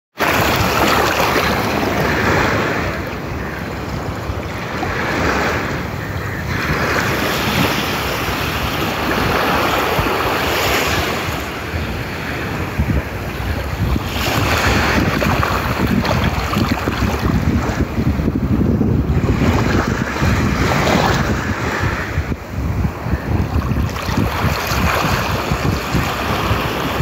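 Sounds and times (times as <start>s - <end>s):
waves washing over sand: 0.2s - 27.0s
wind rumbling on microphone: 0.2s - 27.0s.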